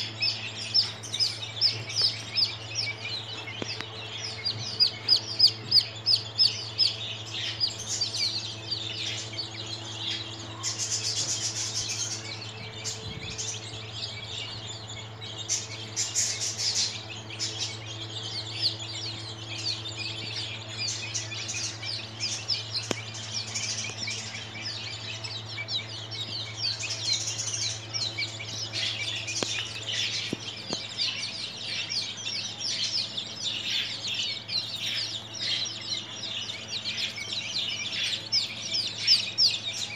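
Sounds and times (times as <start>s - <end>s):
chicks peeping: 0.0s - 39.9s
low hum: 0.0s - 39.9s.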